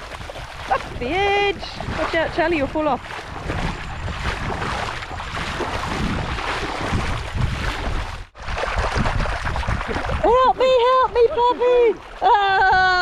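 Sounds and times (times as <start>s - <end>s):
water splashing and sloshing: 0.0s - 13.0s
wind rumbling on microphone: 0.0s - 13.0s.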